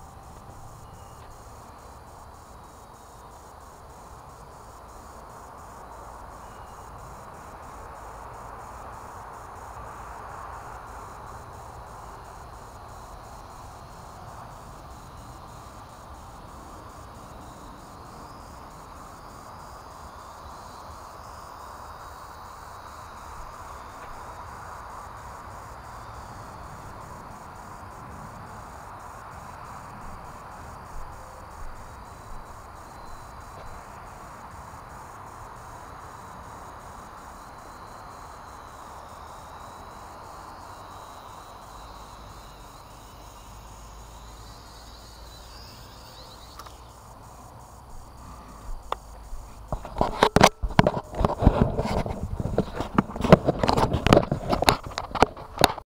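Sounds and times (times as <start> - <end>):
insects chorus: 0.0 - 55.8.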